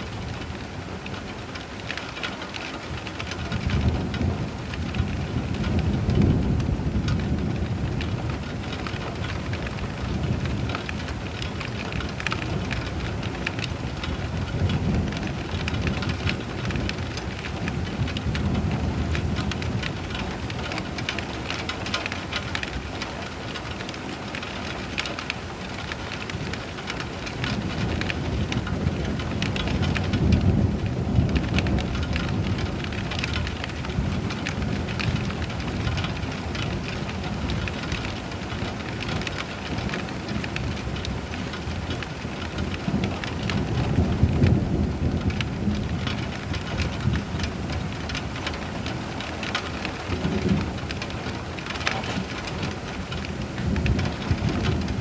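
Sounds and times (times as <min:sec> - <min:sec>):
steady rain falling: 0:00.0 - 0:55.0
low thunder rumbling: 0:02.9 - 0:55.0.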